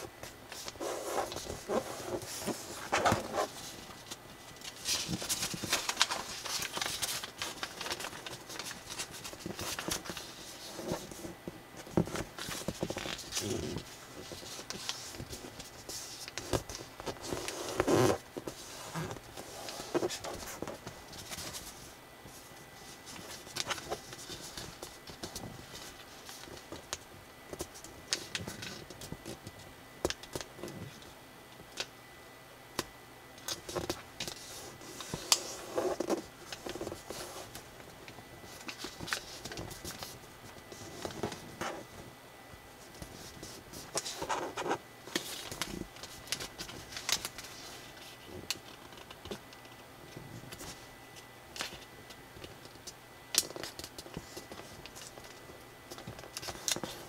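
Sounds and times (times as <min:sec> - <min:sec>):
paper rustling and crinkling: 0:00.0 - 0:31.0, 0:33.4 - 0:42.1, 0:42.8 - 0:57.0.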